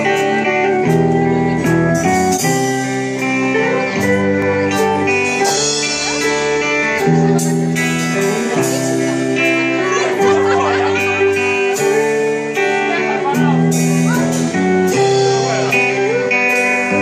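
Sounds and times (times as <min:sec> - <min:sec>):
band playing guitar-led music: 0:00.0 - 0:17.0.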